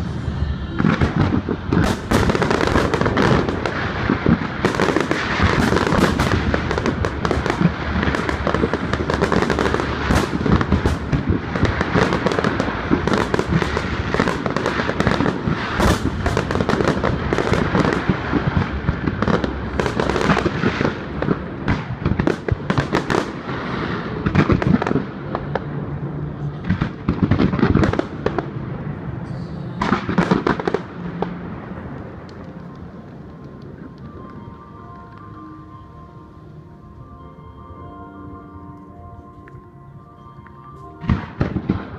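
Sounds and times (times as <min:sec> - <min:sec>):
fireworks bangs and crackles: 0:00.0 - 0:35.9, 0:40.5 - 0:41.9.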